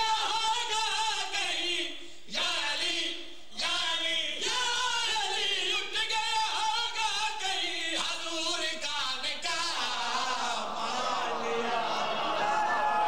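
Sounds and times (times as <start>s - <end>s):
men singing a chant: 0.0s - 8.2s, 9.3s - 13.0s.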